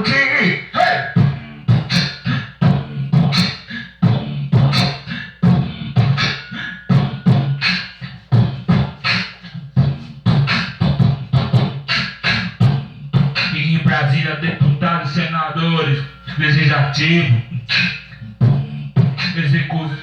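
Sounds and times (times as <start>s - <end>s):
instrumental rap beat: 0.0s - 20.0s.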